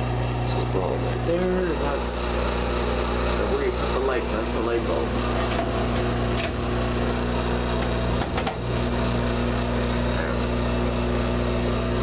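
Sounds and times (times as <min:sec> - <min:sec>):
exhaust fan motor humming: 0:00.0 - 0:12.0
fan rattle: 0:00.5 - 0:10.7.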